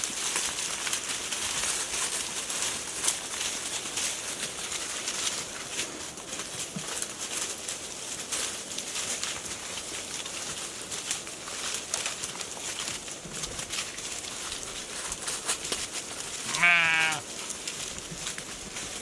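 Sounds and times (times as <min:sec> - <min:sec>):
small ticks and rustles: 0:00.0 - 0:19.0
steady outdoor hiss: 0:00.0 - 0:19.0.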